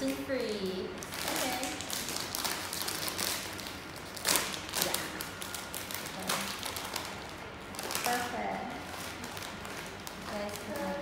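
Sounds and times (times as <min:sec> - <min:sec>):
crisp bag crinkling: 0:01.0 - 0:11.0.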